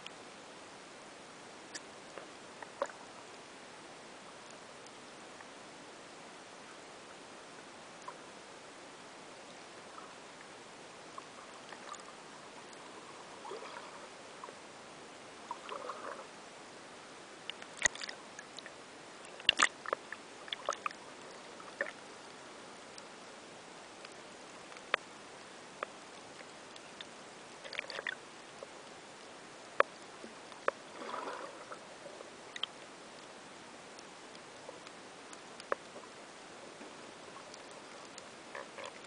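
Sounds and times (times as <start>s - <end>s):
faint underwater clicks and crackles: 0.0s - 39.0s.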